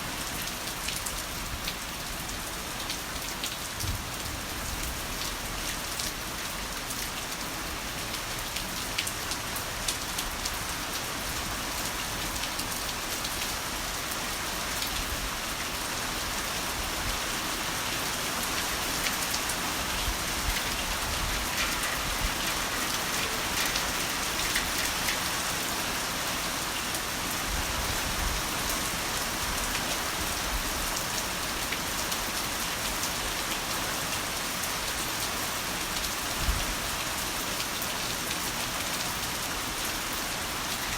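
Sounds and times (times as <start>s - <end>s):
heavy rain falling: 0.0s - 40.9s
raindrops hitting close by: 0.0s - 40.9s.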